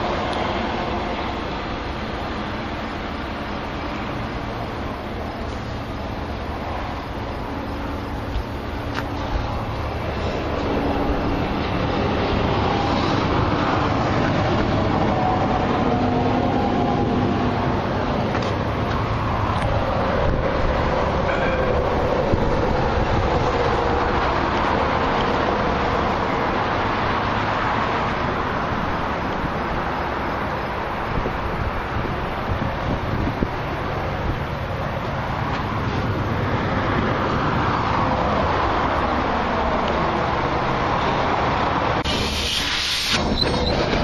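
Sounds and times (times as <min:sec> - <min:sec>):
truck rumbling while reversing: 0:00.0 - 0:44.0.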